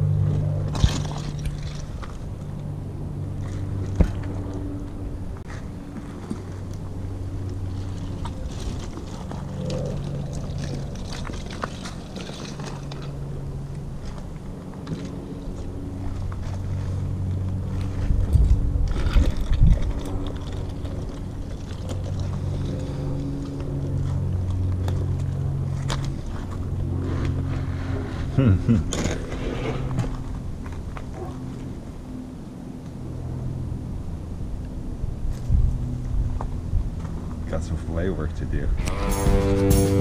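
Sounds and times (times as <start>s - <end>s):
engine-like hum: 0.0s - 40.0s.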